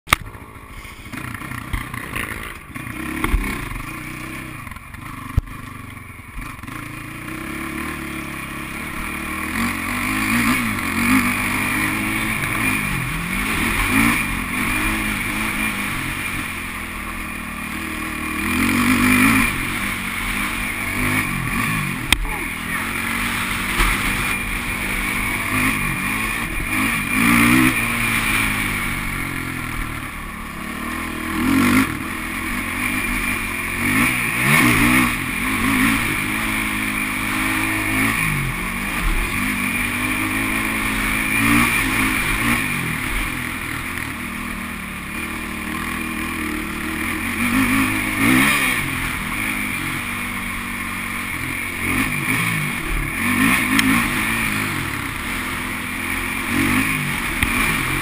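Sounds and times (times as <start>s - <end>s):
quad engine revving: 0.1s - 58.0s.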